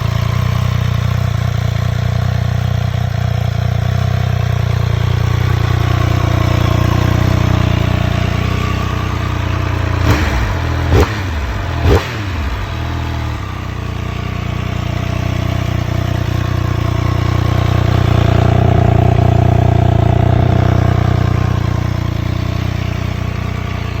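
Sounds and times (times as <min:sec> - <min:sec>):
motorcycle engine idling: 0:00.0 - 0:24.0
motorcycle throttle blips: 0:00.0 - 0:24.0.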